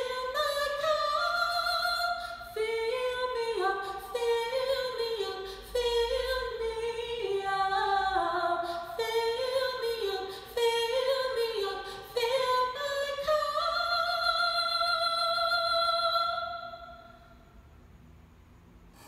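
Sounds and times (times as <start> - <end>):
woman singing a cappella: 0.0 - 17.3.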